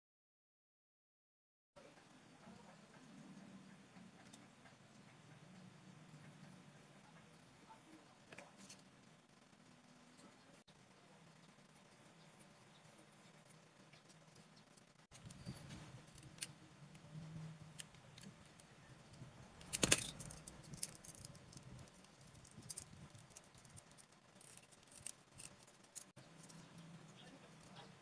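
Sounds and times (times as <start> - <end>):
faint low hum: 1.8 - 28.0.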